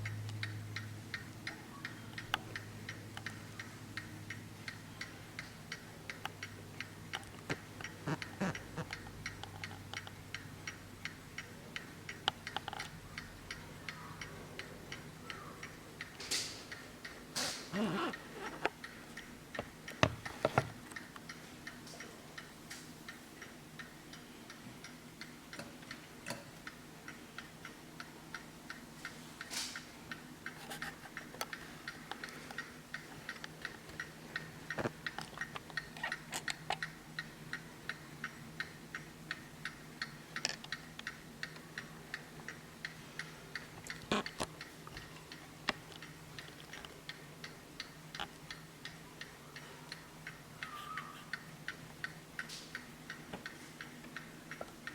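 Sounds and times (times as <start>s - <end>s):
mantel clock ticking: 0.0s - 54.9s.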